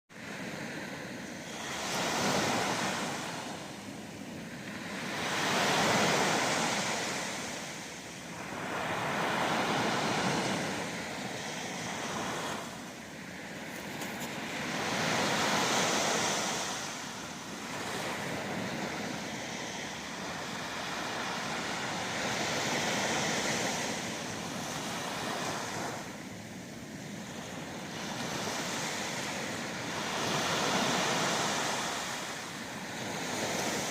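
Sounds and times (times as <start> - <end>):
ocean waves breaking: 0.2 - 33.9.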